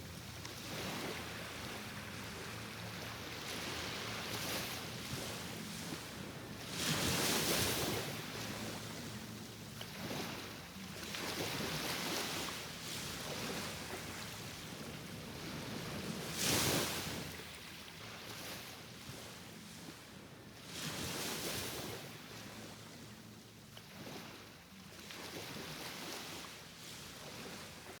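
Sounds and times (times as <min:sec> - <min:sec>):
waves washing in: 0:00.0 - 0:23.1, 0:23.8 - 0:28.0.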